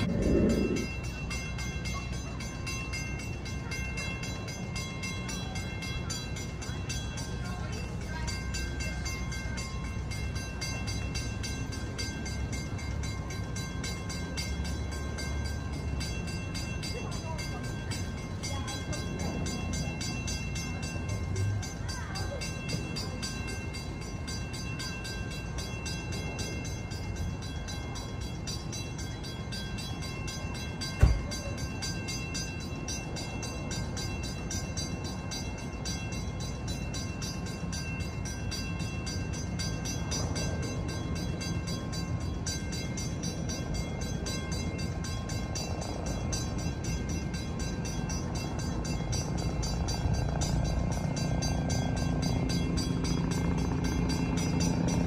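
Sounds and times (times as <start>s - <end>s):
distant train rumble: 0.0s - 55.0s
faint steady tones: 0.0s - 55.0s.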